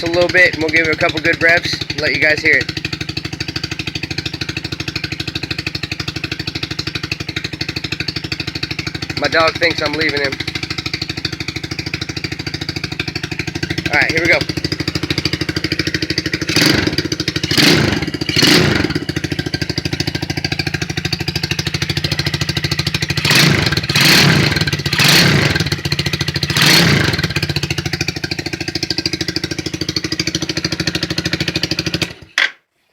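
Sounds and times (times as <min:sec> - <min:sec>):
engine idling and revving: 0:00.0 - 0:32.3.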